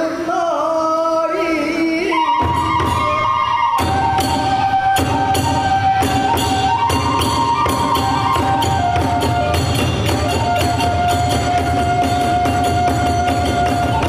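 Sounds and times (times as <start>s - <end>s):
bamboo flute melody: 1.9s - 14.0s
drums beating: 2.3s - 14.0s.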